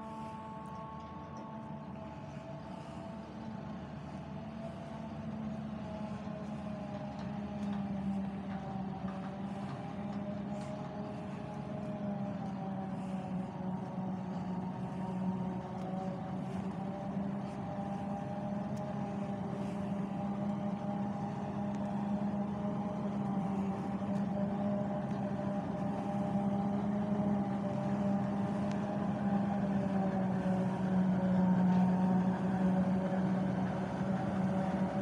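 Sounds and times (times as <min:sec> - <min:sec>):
harvester engine and chopper hum: 0:00.0 - 0:35.0.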